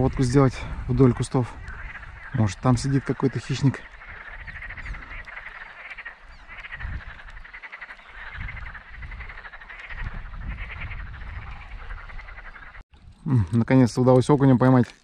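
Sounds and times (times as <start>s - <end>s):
frogs croaking: 0.0s - 12.8s.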